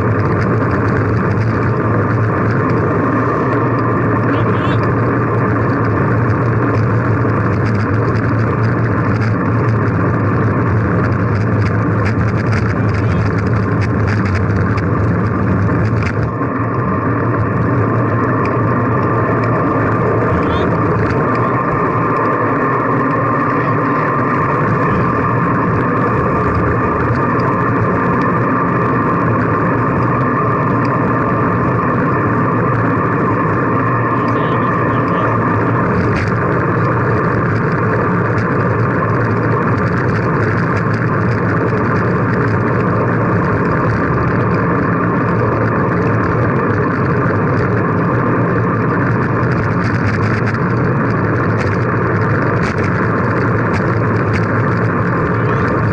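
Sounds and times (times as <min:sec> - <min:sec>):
road noise: 0:00.0 - 0:55.9
rushing wind: 0:00.0 - 0:55.9.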